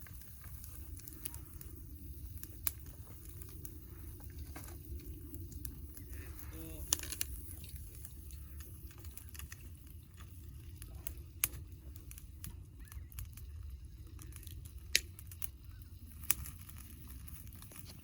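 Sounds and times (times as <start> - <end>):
low rumble: 0.0 - 17.6
campfire crackling: 0.0 - 18.0.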